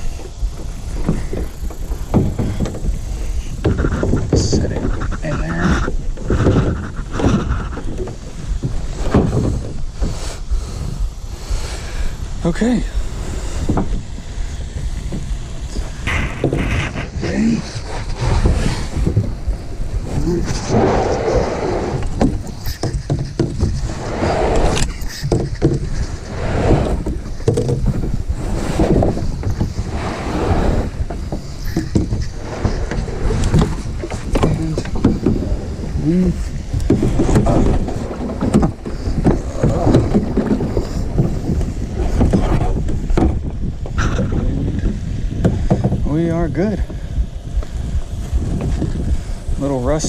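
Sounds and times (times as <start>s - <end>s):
kayak and paddle knocking: 0.0s - 50.0s
steady low rumble: 0.0s - 50.0s.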